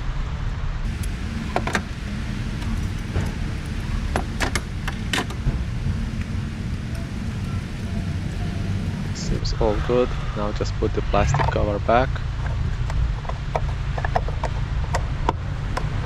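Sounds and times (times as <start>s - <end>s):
steady low rumble: 0.1s - 16.0s.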